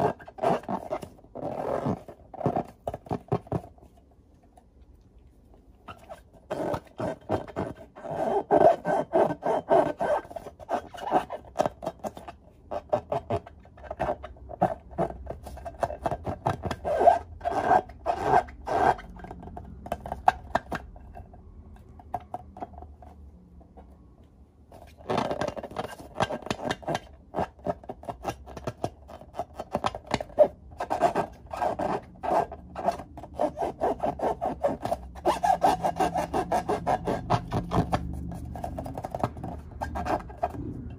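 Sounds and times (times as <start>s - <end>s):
hands rubbing balloons squeaking: 0.0s - 4.0s, 5.8s - 21.3s, 24.7s - 40.9s.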